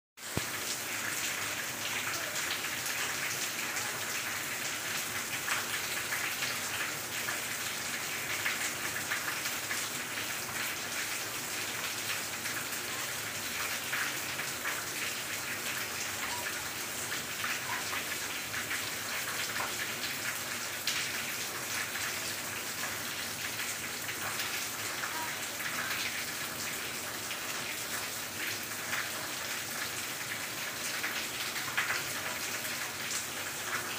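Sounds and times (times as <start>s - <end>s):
steady rain hiss: 0.2s - 33.9s.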